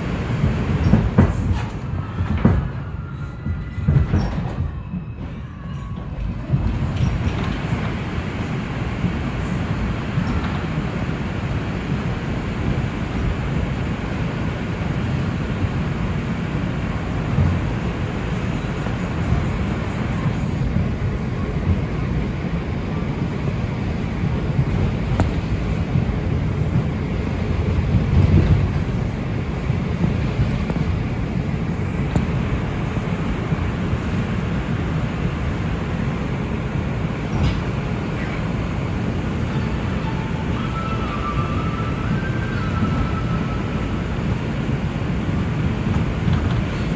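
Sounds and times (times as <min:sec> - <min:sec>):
subway wheels rumbling on rails: 0:00.0 - 0:46.9.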